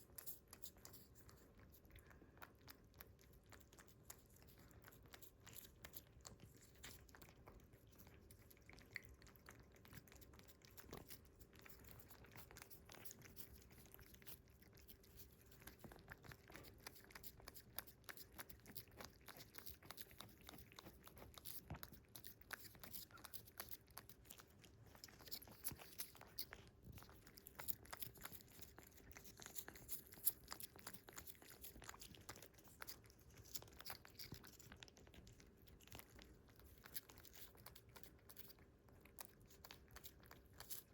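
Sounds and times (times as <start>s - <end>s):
cats licking wet tongue clicks: 0.0s - 40.9s.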